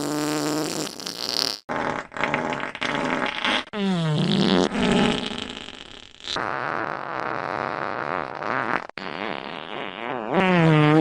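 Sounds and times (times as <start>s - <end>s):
farting: 0.0s - 11.0s.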